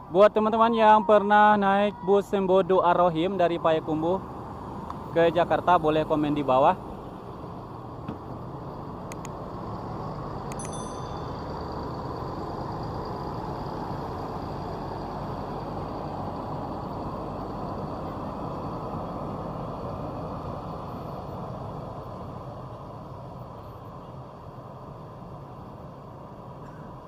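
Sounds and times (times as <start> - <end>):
bus diesel engine rumble: 0.0 - 27.0.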